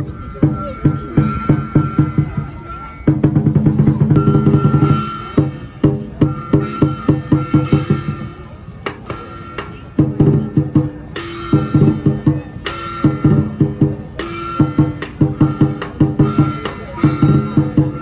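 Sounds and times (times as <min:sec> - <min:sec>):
drum strokes: 0:00.0 - 0:18.0.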